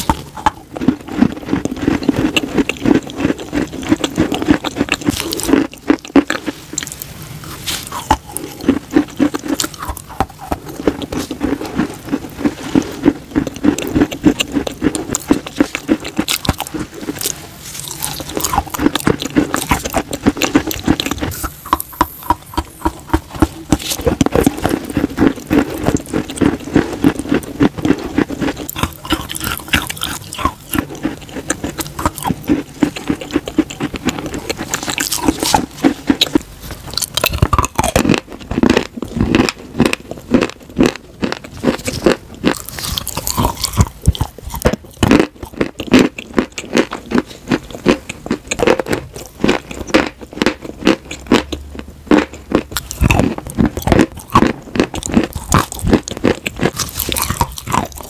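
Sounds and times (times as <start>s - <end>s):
person crunching chalk: 0.0s - 51.5s, 52.2s - 58.0s.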